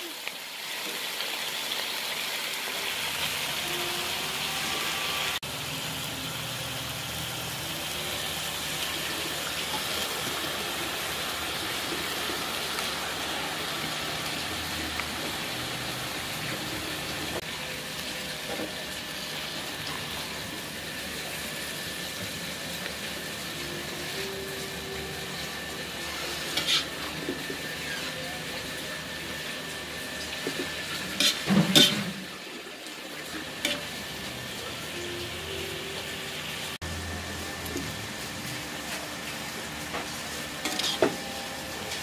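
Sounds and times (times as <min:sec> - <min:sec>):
vegetables sizzling in a wok: 0:00.0 - 0:42.0.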